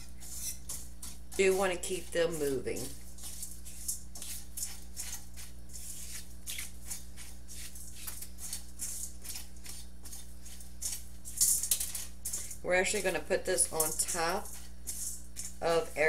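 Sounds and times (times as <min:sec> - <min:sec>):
spatula scraping breadcrumbs in pan: 0:00.0 - 0:16.0.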